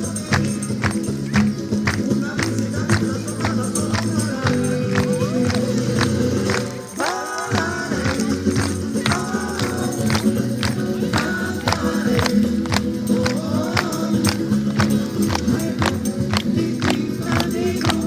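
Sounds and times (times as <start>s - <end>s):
sharp percussion beat: 0.0s - 18.0s
singing voices: 0.0s - 18.0s.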